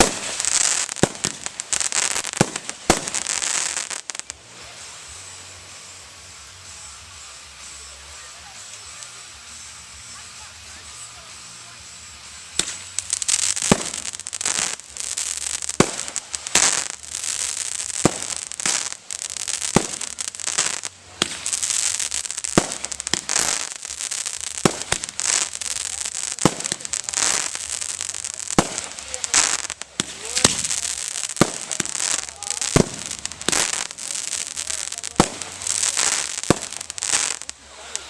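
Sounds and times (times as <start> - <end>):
firework shell bursts: 0.0 - 38.0
high-pitched firework crackle: 0.0 - 38.0.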